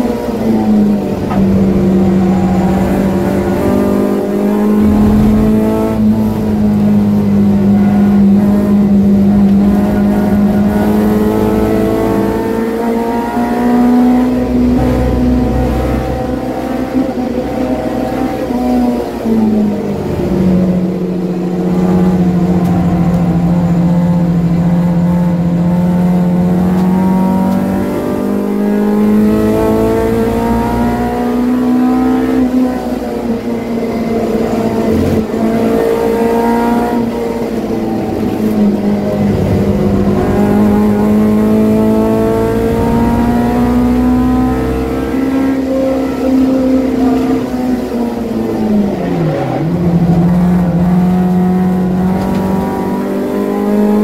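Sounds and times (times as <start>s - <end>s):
car engine revving hard: 0.0s - 54.0s.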